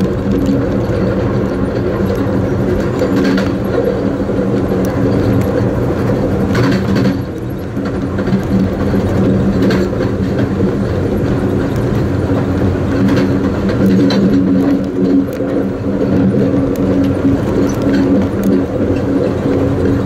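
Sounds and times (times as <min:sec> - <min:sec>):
clicks and rattles: 0:00.0 - 0:20.0
train car rumbling on track: 0:00.0 - 0:20.0.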